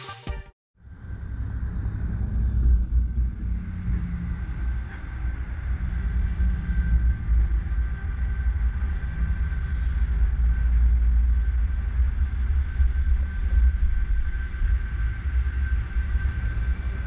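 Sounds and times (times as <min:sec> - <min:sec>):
car engine rumbling: 0:00.8 - 0:17.0.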